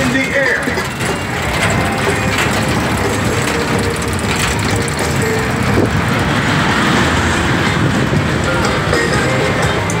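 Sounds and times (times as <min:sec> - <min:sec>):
roller coaster cars rattling: 0:00.0 - 0:10.0.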